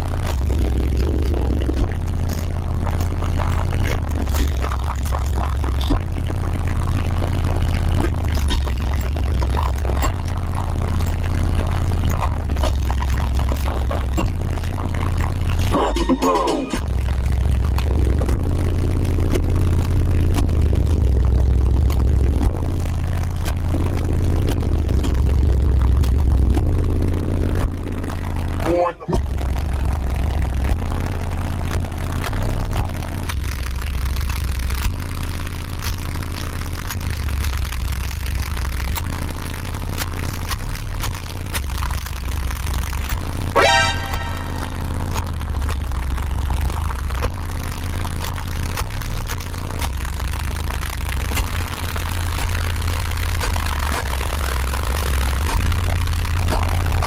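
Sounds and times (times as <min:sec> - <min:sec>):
sharp clicks and rattles: 0:00.0 - 0:28.6, 0:29.2 - 0:43.6, 0:44.8 - 0:57.0
subwoofers playing deep bass: 0:00.0 - 0:57.0.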